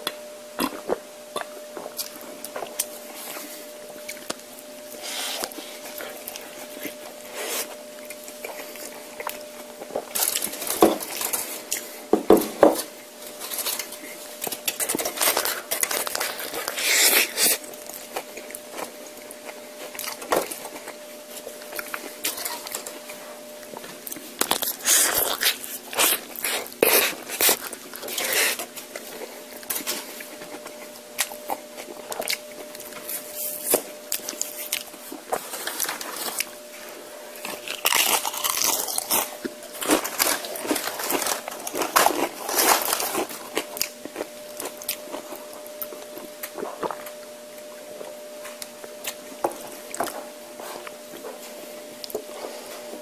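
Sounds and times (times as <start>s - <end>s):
faint steady hum: 0.0s - 53.0s
tortilla chips crunching: 1.8s - 11.9s, 12.8s - 50.8s.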